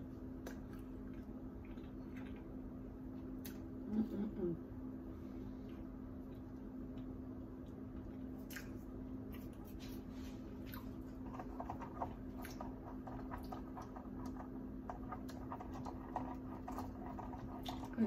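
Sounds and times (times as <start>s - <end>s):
wet chewing and mouth sounds: 0.0s - 3.8s, 5.4s - 18.0s
steady low hum: 0.0s - 18.0s.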